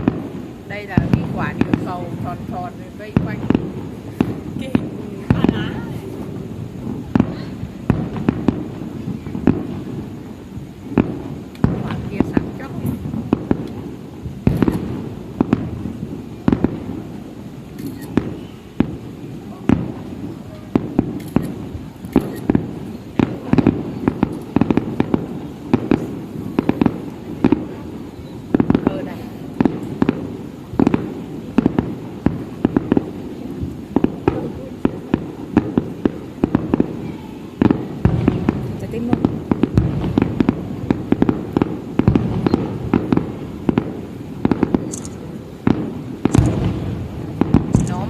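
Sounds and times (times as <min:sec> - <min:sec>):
distant fireworks bursting: 0:00.0 - 0:48.0.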